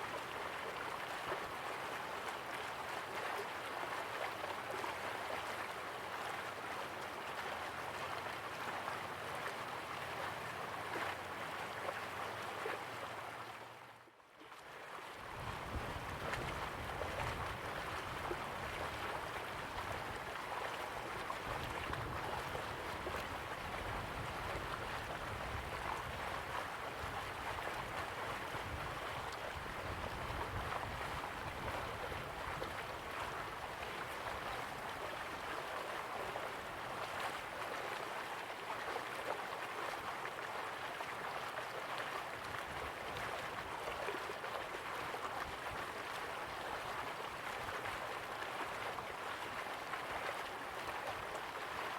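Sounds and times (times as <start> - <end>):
river water flowing: 0.0 - 51.9.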